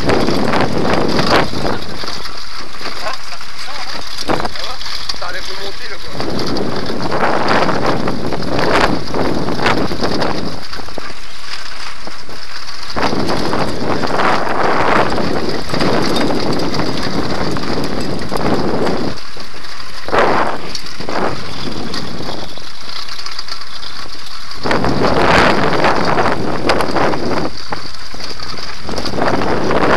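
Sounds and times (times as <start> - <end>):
bike rattling over cobblestones: 0.0 - 29.9.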